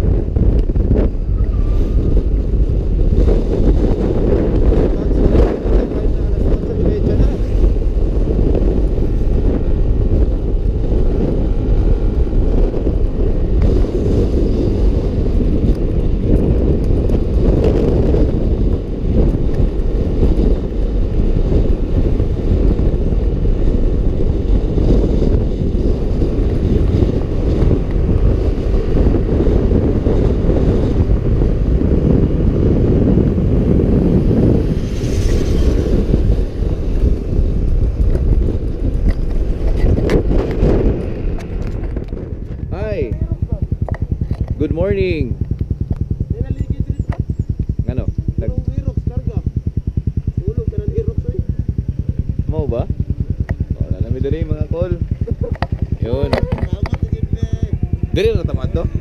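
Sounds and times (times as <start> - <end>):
passing motorcycle: 0.0 - 59.0
wind buffeting microphone: 0.0 - 59.0.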